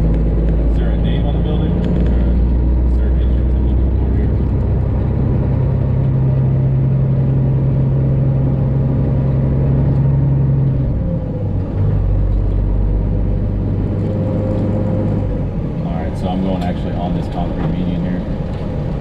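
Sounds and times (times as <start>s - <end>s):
truck diesel engine humming: 0.0s - 19.0s.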